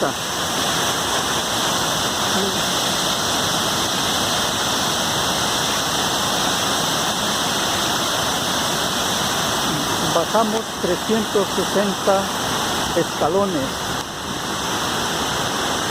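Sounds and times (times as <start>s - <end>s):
waterfall pouring: 0.0s - 15.9s.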